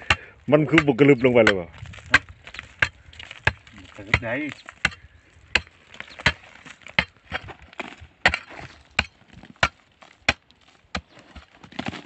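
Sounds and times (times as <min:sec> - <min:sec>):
hoe striking hard earth: 0:00.0 - 0:12.0.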